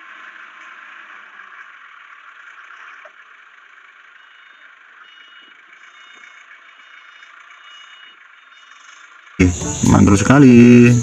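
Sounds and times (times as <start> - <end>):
forklift engine hissing: 0.1 - 11.0.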